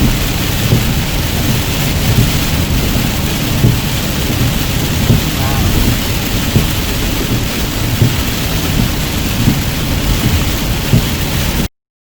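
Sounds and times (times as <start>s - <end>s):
deep rumble: 0.0s - 11.6s
heavy rain on a car: 0.0s - 11.7s.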